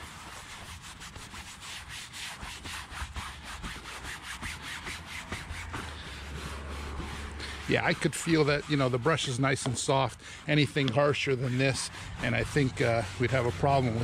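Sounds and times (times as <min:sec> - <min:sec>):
brush scrubbing wet fabric: 0:00.0 - 0:14.0.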